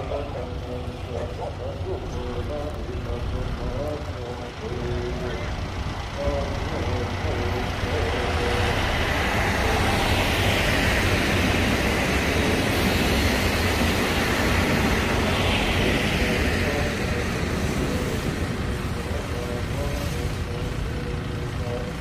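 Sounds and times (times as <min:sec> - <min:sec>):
diesel engines: 0:00.0 - 0:22.0
train wheels on rails: 0:00.0 - 0:22.0.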